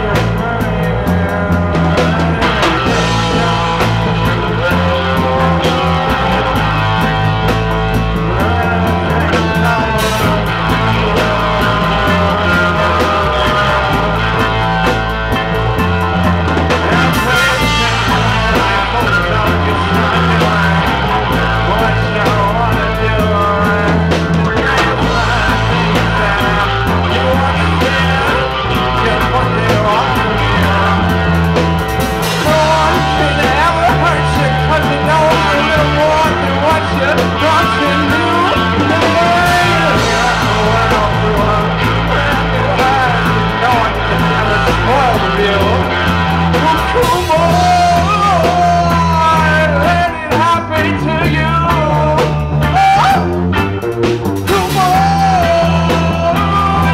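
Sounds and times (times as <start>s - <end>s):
man singing: 0.0s - 56.9s
reggae band playing: 0.0s - 56.9s
repeating bass line: 0.0s - 56.9s.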